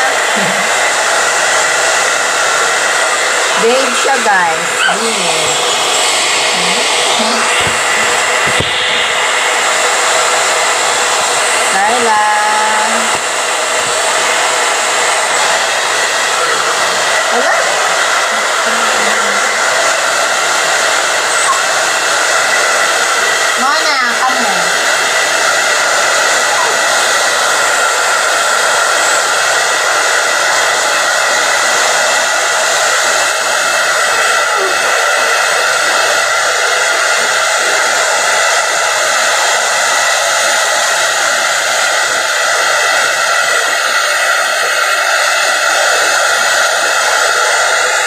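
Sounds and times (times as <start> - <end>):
hair dryer running: 0.0 - 48.0.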